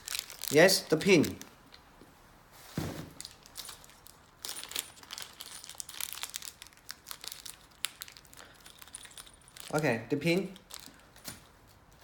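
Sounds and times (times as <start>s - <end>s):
plastic packaging crinkling: 0.0s - 1.6s, 2.9s - 11.9s.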